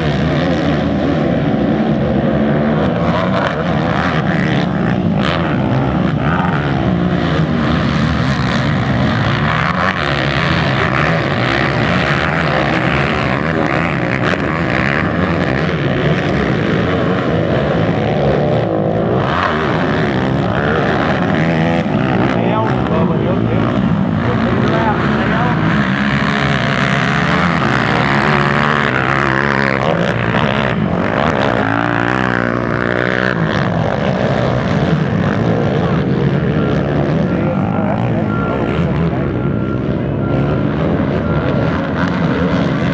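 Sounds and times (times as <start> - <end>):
quad engines revving: 0.0 - 42.9.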